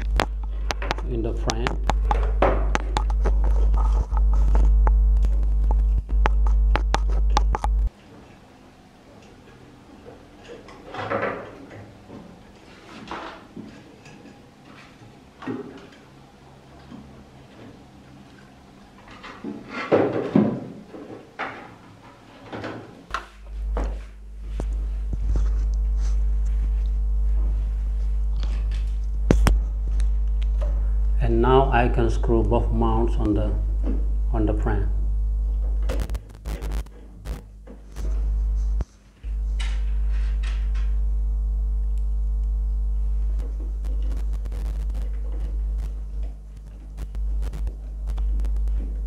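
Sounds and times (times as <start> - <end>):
loud electrical hum: 0.0 - 49.0.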